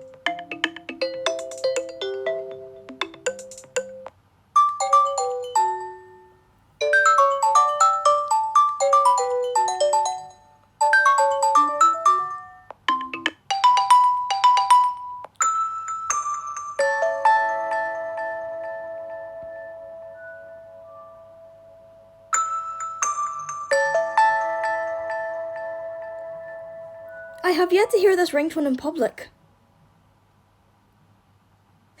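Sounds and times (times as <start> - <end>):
phone ringtone melodies: 0.0 - 27.8.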